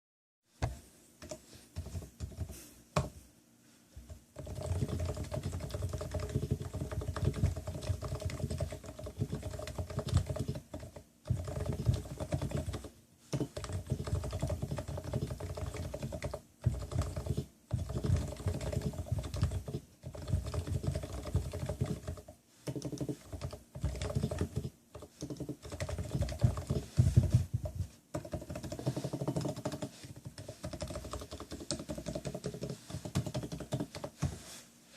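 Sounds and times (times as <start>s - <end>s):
keyboard keystrokes: 4.4s - 34.3s.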